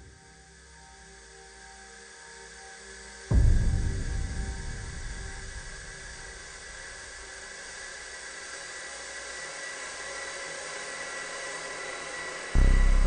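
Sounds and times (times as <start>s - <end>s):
electronic drone: 0.0s - 13.0s.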